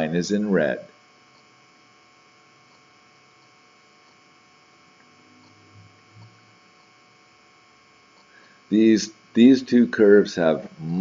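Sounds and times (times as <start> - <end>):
faint electrical hum and whine: 0.0 - 11.0.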